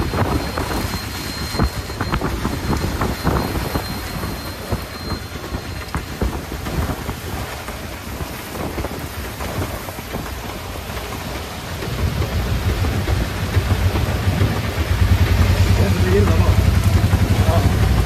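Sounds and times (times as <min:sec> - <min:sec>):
heavy rain on canvas canopy: 0:00.0 - 0:18.0
low vehicle engine rumble: 0:00.0 - 0:18.0
rain splashing on flooded road: 0:00.0 - 0:18.0.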